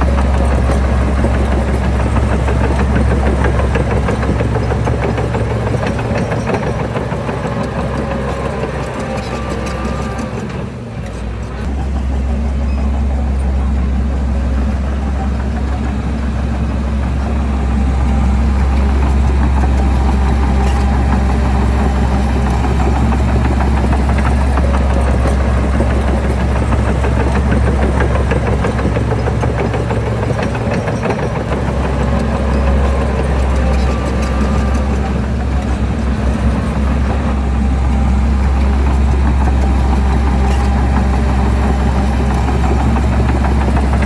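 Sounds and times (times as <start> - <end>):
diesel engine low hum: 0.0 - 44.0.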